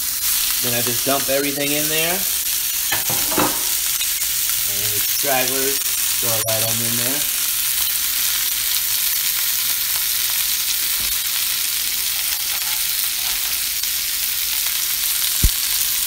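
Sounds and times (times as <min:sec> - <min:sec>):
meat and vegetables sizzling in oil: 0:00.0 - 0:16.0.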